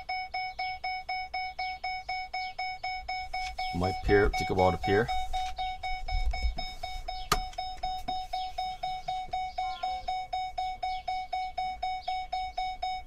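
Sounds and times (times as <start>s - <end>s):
warning chime dinging: 0.0s - 13.0s.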